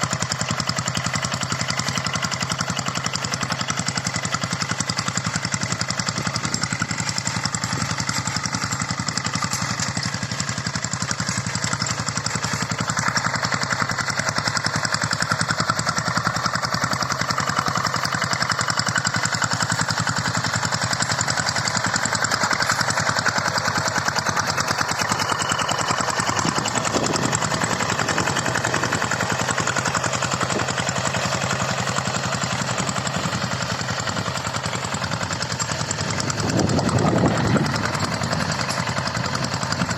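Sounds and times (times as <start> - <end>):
hand tractor diesel engine running: 0.0 - 39.9.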